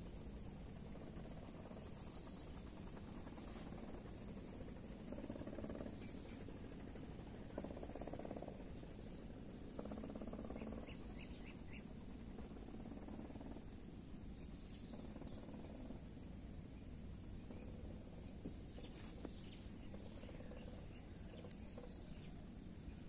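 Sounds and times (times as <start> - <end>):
high-pitched insect whine: 0.0 - 23.0
low buzzing: 0.0 - 23.0.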